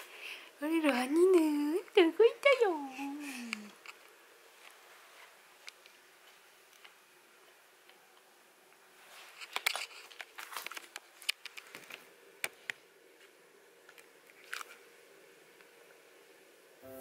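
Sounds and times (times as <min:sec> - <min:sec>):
soft crinkling: 0:00.0 - 0:16.0.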